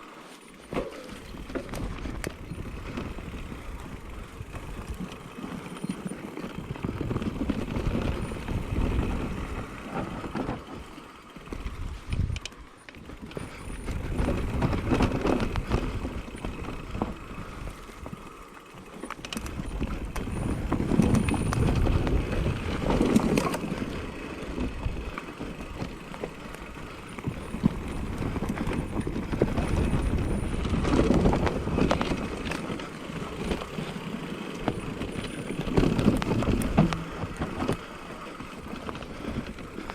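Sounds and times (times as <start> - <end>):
bike tyres rolling over dirt: 0.0 - 39.9
chain and suspension rattling: 0.4 - 39.9.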